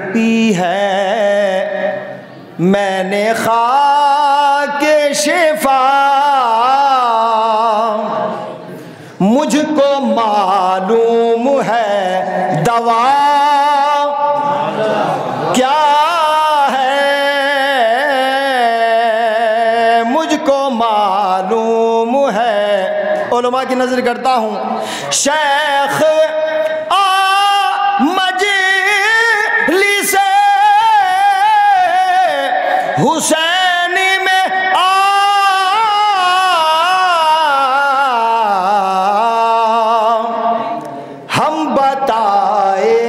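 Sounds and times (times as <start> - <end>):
man singing melodic chant: 0.0 - 43.0.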